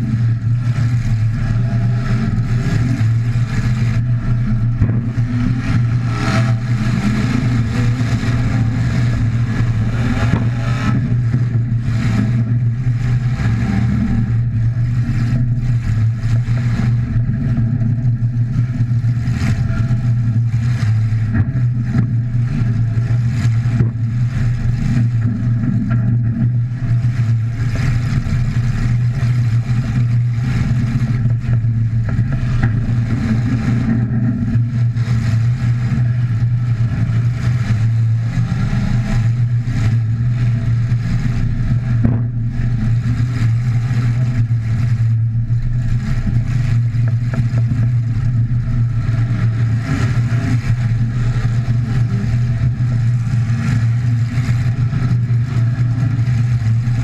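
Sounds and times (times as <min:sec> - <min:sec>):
loud car engine running: 0:00.0 - 0:57.0.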